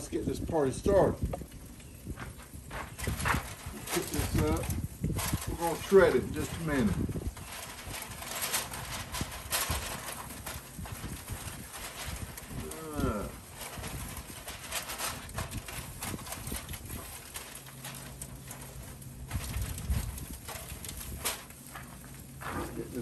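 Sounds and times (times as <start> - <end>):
aluminium foil crinkling: 0.0 - 23.0.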